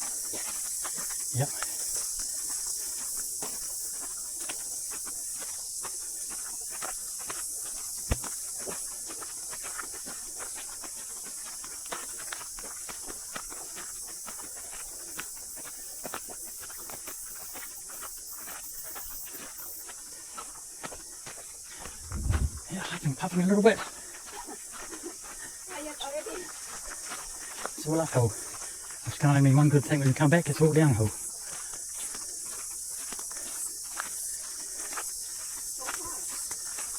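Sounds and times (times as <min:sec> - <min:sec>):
cicadas chorus: 0:00.0 - 0:36.9
footsteps on track: 0:00.0 - 0:36.9.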